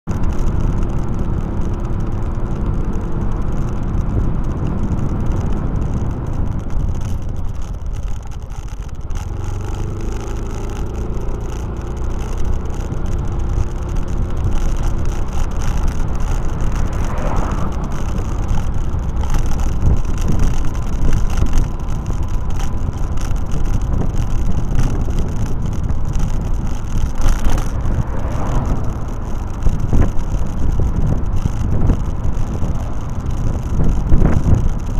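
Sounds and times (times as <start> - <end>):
road and wind noise: 0.0 - 34.9
vehicle engine running: 0.0 - 34.9.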